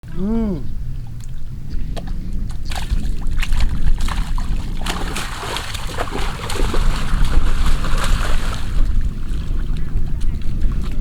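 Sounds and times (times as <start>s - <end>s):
wind rumble on microphone: 0.0s - 11.0s
water splashing and sloshing: 1.0s - 11.0s.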